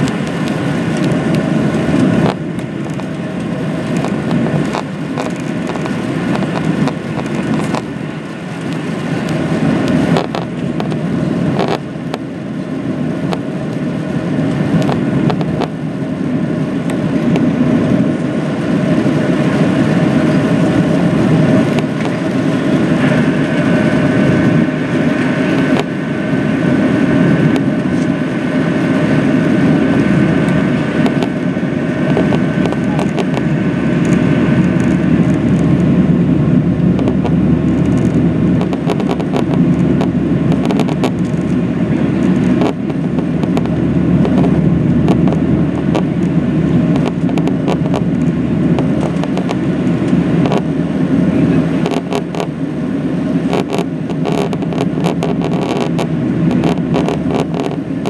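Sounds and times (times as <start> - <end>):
jet engine and airflow rumble: 0.0 - 58.0.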